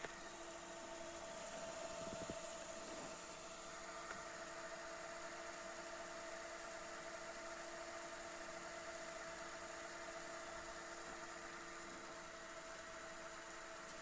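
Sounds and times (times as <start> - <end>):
video recorder whirring: 0.0 - 14.0.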